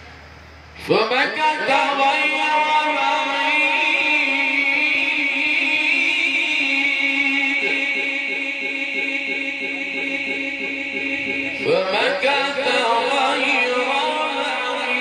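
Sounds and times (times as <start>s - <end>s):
man chanting melodically: 0.8s - 15.0s.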